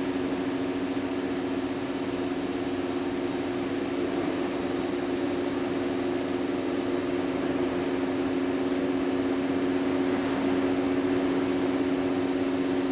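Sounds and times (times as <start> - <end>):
constant low hum: 0.0 - 12.9
tyre road noise in car cabin: 0.0 - 12.9.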